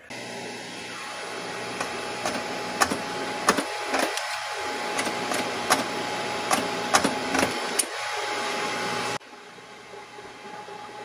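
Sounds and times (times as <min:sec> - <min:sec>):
hydraulic pump motor running: 0:00.0 - 0:11.0.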